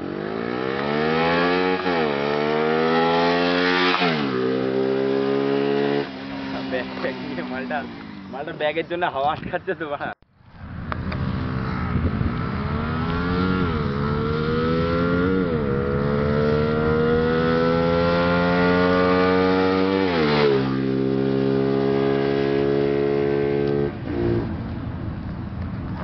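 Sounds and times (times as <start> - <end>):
motorcycle engine accelerating: 0.0 - 8.9, 10.4 - 26.0.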